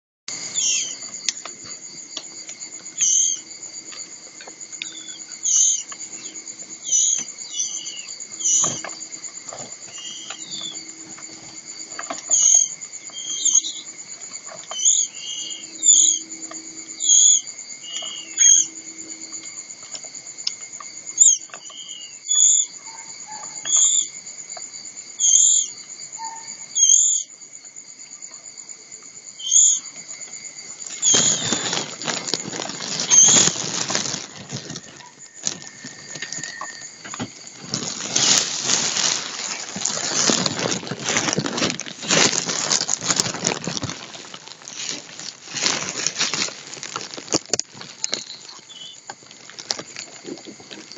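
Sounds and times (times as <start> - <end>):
high-pitched insect drone: 0.3 - 47.2.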